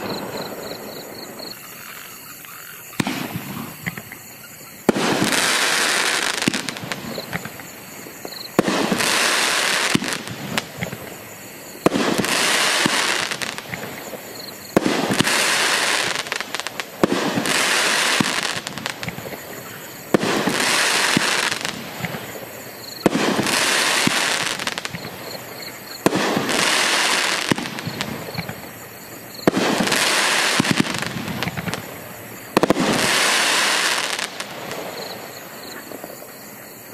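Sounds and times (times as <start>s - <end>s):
firework bangs: 0.0s - 2.1s, 2.7s - 36.2s
firework crackle: 0.0s - 36.2s.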